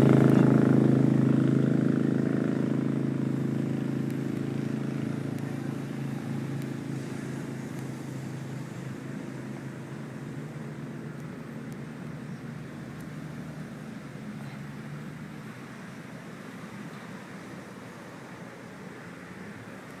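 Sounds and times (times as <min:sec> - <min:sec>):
vehicle engine running: 0:00.0 - 0:18.2.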